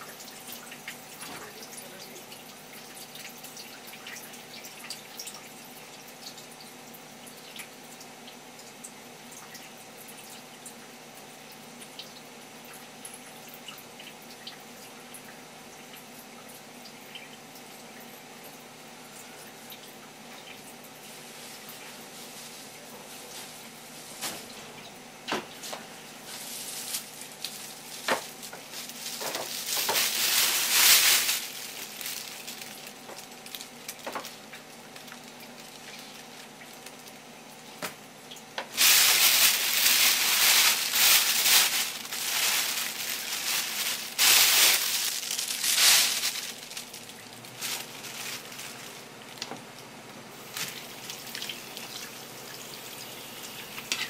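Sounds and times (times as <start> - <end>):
water running from tap: 0.0 - 18.6, 26.6 - 49.4, 50.4 - 54.0.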